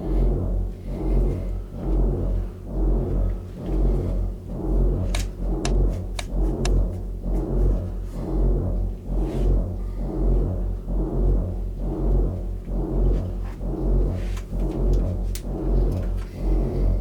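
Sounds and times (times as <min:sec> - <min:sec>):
low droning suspense music: 0:00.0 - 0:17.0.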